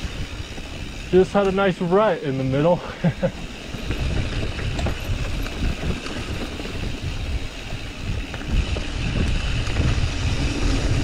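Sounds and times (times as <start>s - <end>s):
bike rattling on dirt trail: 0.0s - 11.0s
wind buffeting microphone: 0.0s - 11.0s.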